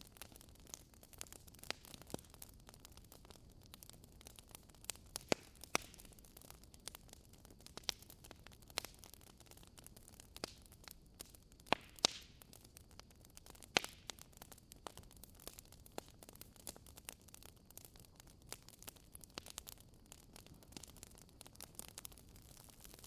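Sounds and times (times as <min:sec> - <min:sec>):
fire pops: 0:00.0 - 0:23.0
logs crackling in a fireplace: 0:00.0 - 0:23.0.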